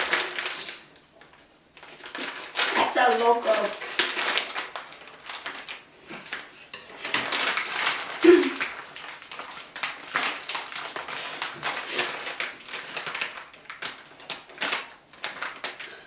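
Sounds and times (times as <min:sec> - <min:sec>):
hands handling food and packaging: 0:00.0 - 0:16.0.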